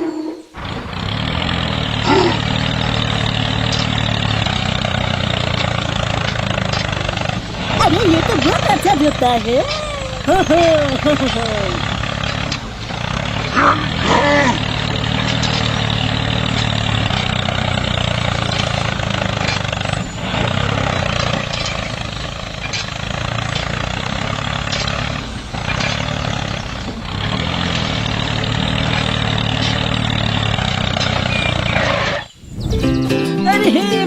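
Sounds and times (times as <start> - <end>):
tractor engine running: 0.5 - 33.2.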